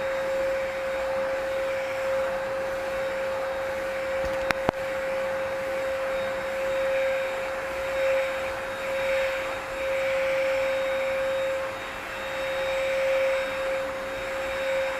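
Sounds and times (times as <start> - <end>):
stick vacuum whining: 0.0 - 14.9.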